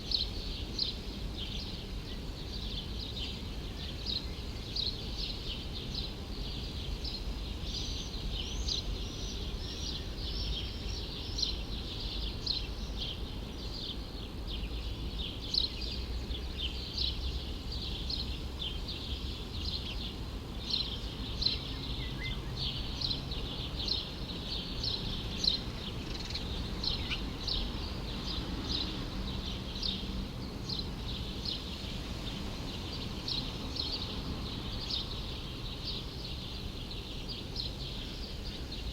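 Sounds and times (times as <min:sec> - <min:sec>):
low city rumble: 0:00.0 - 0:38.9
small birds chirping: 0:00.0 - 0:38.9.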